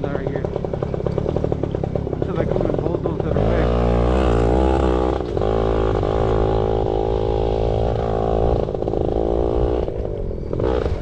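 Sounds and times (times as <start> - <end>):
two-stroke motorbike engine revving: 0.0 - 11.0.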